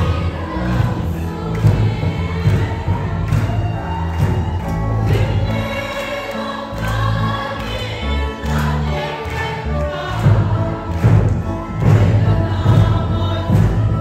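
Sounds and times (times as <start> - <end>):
band accompaniment with bass: 0.0 - 14.0
congregation singing: 0.0 - 14.0.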